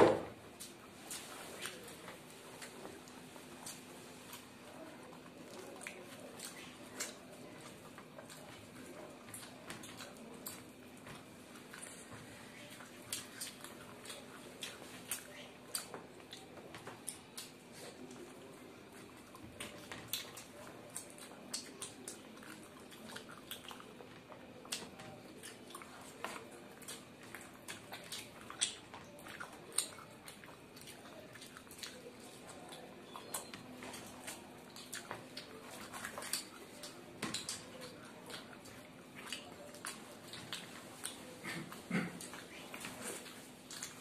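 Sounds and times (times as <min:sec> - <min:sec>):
faint steady hum: 0:00.0 - 0:44.0
people chewing: 0:00.1 - 0:44.0.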